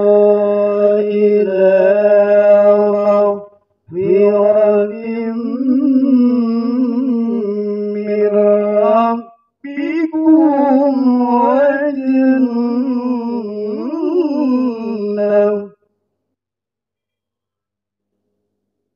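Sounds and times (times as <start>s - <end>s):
man reciting melodically: 0.0s - 15.7s.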